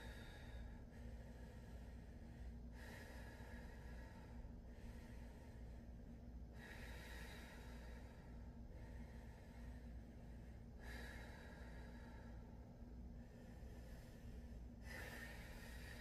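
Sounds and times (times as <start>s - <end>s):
low room hum: 0.0s - 16.0s
woman breathing slowly: 0.0s - 16.0s.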